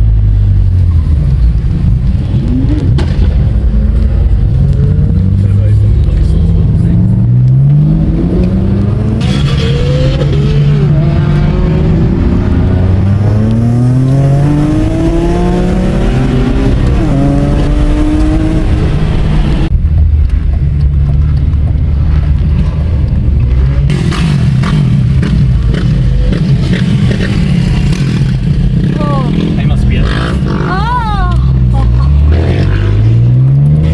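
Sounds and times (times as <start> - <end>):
low engine rumble: 0.0 - 32.4
race car engines accelerating: 0.4 - 19.7, 22.4 - 33.9.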